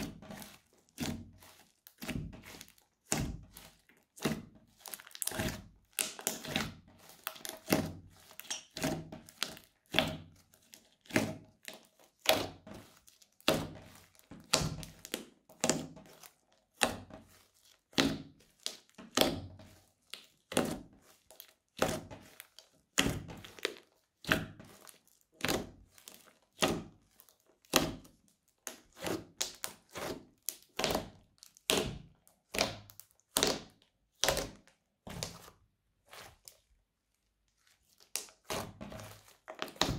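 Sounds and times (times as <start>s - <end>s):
slime squeezed by fingers: 0.0s - 35.5s, 37.6s - 39.9s.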